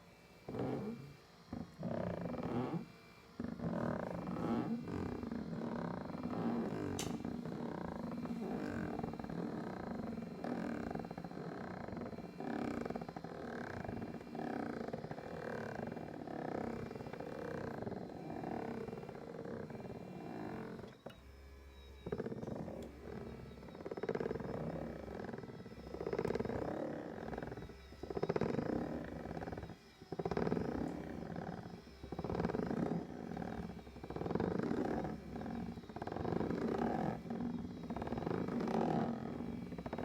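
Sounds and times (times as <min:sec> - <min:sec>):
massage seat mechanism running: 0:00.0 - 0:40.0.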